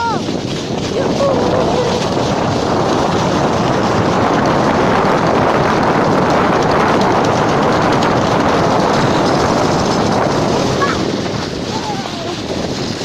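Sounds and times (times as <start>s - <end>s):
sled running over snow: 0.0s - 13.0s
wind rushing on microphone: 0.0s - 13.0s.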